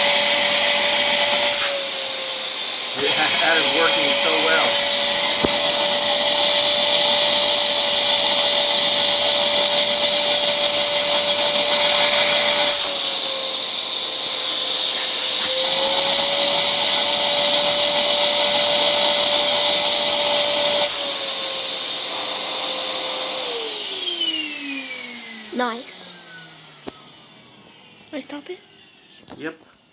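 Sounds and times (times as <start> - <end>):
vacuum cleaner whining: 0.0 - 29.9.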